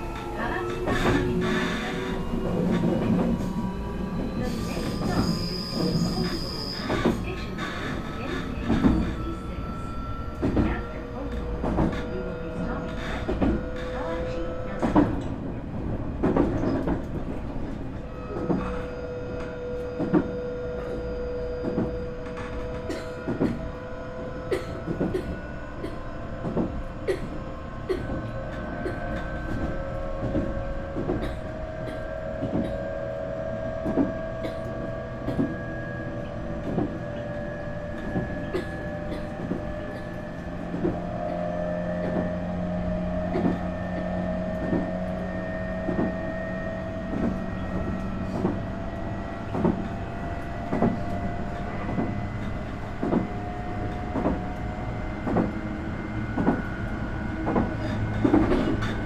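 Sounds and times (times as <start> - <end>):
train motor whine: 0.0 - 59.0.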